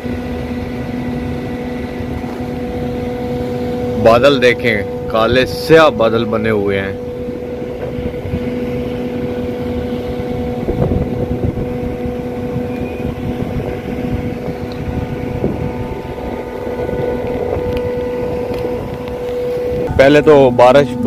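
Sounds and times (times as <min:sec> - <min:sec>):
steady mechanical hum: 0:00.0 - 0:21.0
wind buffeting microphone: 0:00.0 - 0:21.0.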